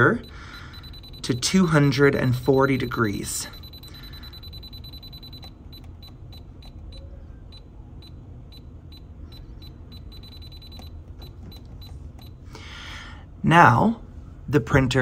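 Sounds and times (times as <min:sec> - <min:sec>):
high electronic beeps: 0:00.0 - 0:12.4
low steady hum: 0:00.0 - 0:15.0.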